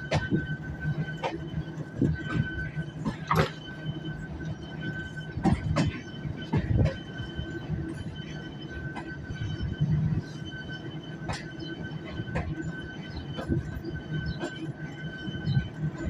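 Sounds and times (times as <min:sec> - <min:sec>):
diesel locomotive humming: 0:00.0 - 0:16.0
wheels clanking on rail joints: 0:00.0 - 0:16.0.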